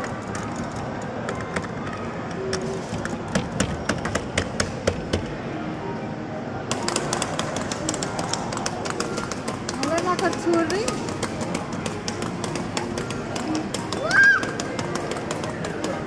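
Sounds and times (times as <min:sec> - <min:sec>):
arcade noise: 0:00.0 - 0:16.0
faint music: 0:00.0 - 0:16.0.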